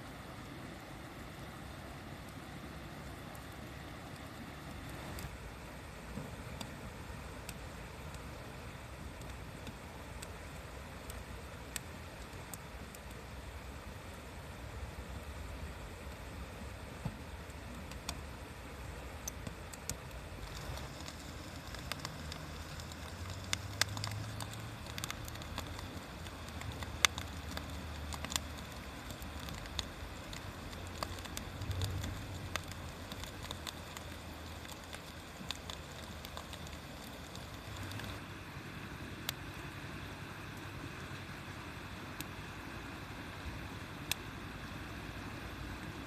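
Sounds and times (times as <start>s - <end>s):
bonfire crackling: 0.0s - 46.0s.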